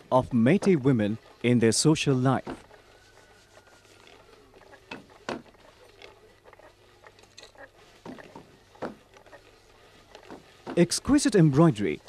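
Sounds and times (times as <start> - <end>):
handloom wooden clicks and knocks: 0.0 - 12.0.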